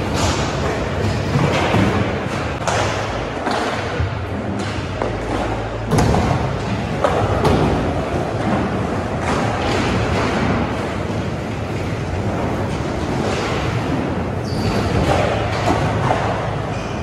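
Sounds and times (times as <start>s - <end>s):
skateboard thuds and clacks: 0.0s - 16.7s
skateboard wheels rumbling: 0.0s - 17.0s.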